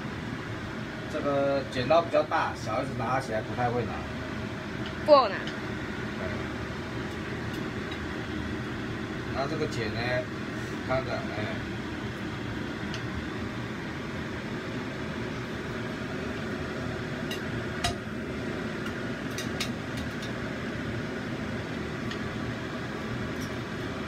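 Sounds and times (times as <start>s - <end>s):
fan-like hum: 0.0s - 24.0s.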